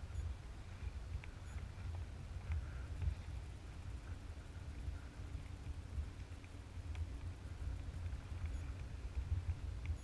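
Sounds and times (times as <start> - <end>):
wind buffeting microphone: 0.0 - 10.0
light ticks of water: 0.1 - 10.0.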